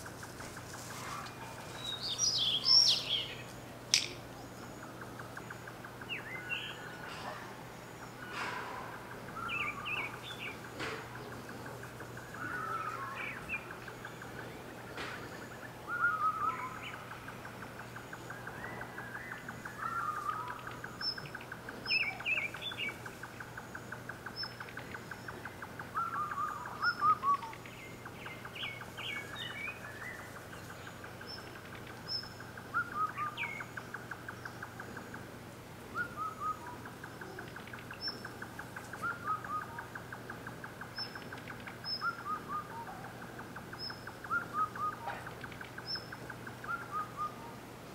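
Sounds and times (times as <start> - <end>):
birds chirping: 0.0 - 47.9
faint low hum: 0.0 - 47.9.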